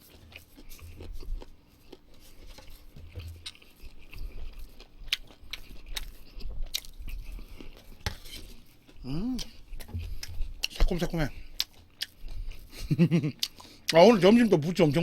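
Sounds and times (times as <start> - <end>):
close-up chewing with mouth smacks: 0.0 - 14.2.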